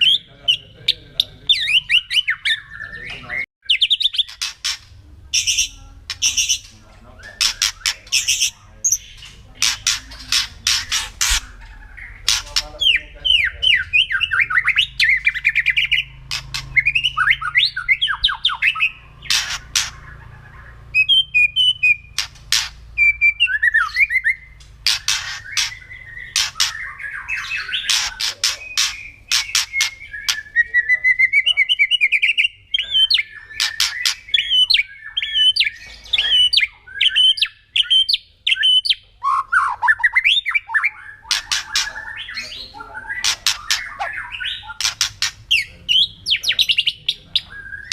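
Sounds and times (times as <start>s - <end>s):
songbird singing with rattles and trills: 0.0s - 47.9s.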